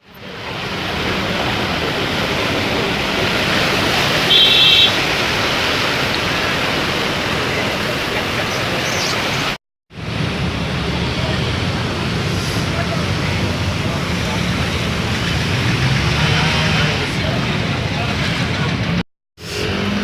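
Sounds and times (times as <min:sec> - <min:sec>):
running water: 0:00.0 - 0:16.4
heavy rain pouring: 0:00.1 - 0:19.0.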